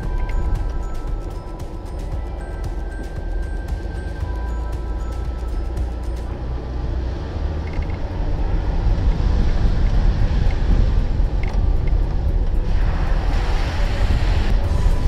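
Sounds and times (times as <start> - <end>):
off-road vehicle engine and tyres: 0.0 - 15.0.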